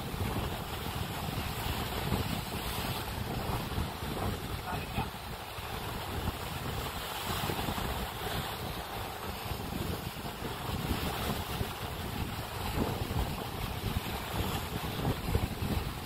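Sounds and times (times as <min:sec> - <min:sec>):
ocean waves against rocks: 0:00.0 - 0:16.0
wind buffeting microphone: 0:00.0 - 0:16.0.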